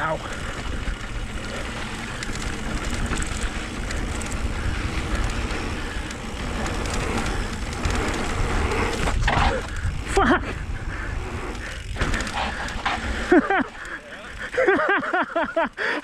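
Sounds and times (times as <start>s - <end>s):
bike tyres rolling on dirt: 0.0s - 16.0s
wind buffeting microphone: 0.3s - 13.3s.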